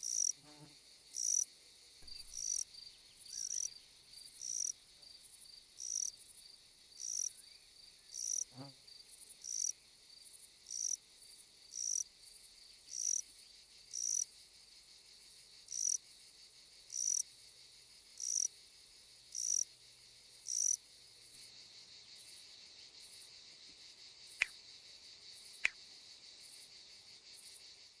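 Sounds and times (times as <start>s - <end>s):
high-pitched insect trill: 0.0s - 28.0s
insect chirps: 0.0s - 28.0s.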